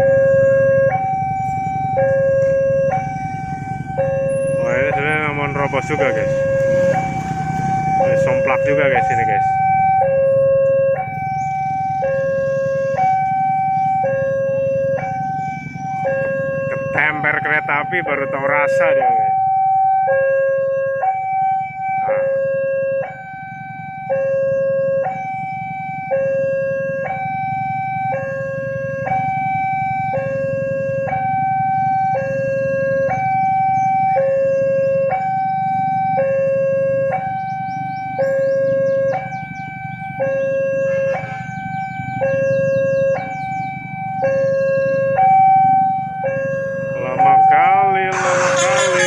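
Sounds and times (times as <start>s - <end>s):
low rumble of traffic: 0.0s - 49.0s
railroad crossing alarm: 0.0s - 49.0s.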